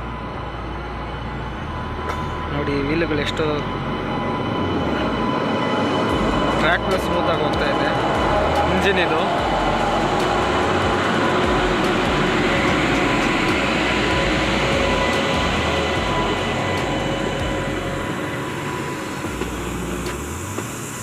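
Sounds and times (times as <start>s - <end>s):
train wheels on track: 0.0s - 21.0s.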